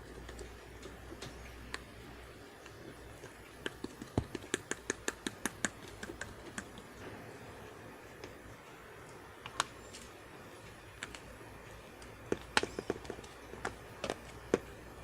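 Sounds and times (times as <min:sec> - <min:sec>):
slime squishing with clicks: 0:00.1 - 0:07.0, 0:08.2 - 0:15.0.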